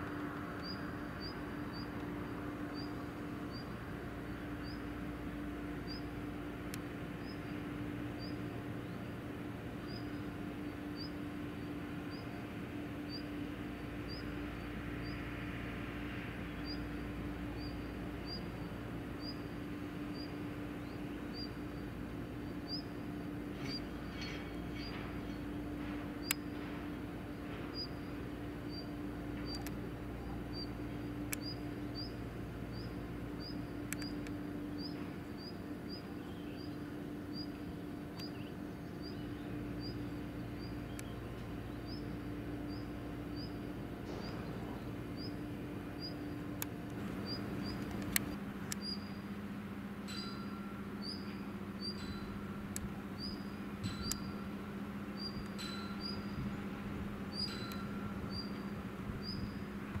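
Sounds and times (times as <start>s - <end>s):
low machinery hum: 0.0s - 60.0s.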